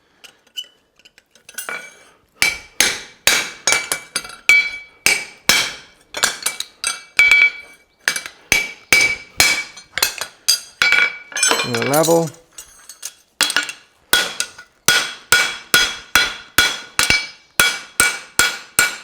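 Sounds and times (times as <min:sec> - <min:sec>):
hammer striking metal on anvil: 0:02.4 - 0:12.3, 0:13.5 - 0:19.0.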